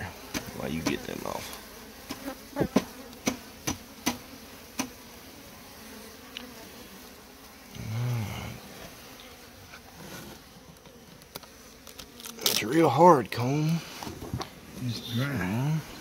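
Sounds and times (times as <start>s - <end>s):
bees humming: 0.0s - 16.0s
loud bee buzz: 0.0s - 16.0s.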